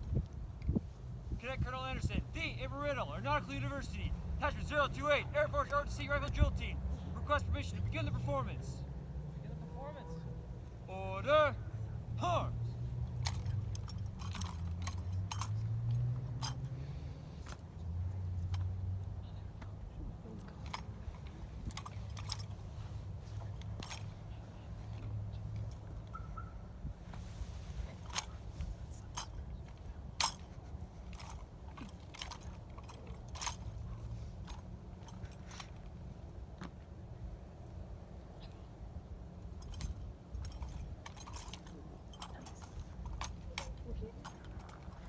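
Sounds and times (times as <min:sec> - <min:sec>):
low steady hum: 0:00.0 - 0:45.0
low steady rumble: 0:00.0 - 0:45.0.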